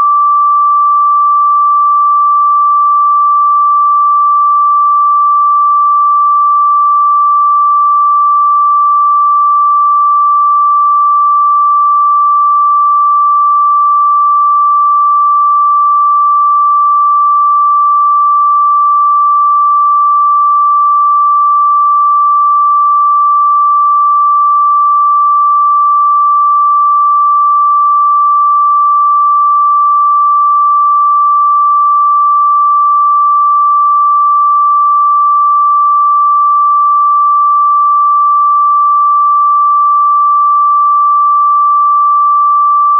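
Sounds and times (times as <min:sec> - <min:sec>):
high-pitched electronic sine tone: 0:00.0 - 0:42.9.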